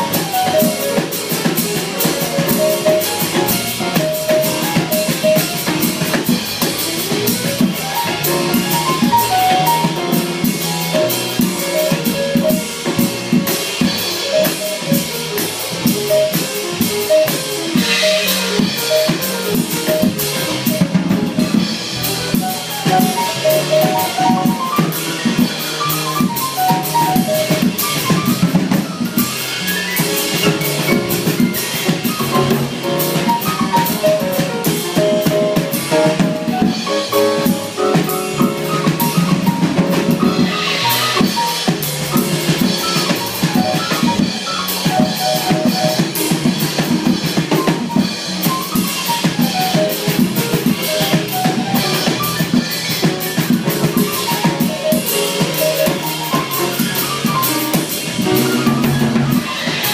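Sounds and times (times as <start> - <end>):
drum kit: 0.0 - 59.9
jazz combo playing: 0.0 - 59.9.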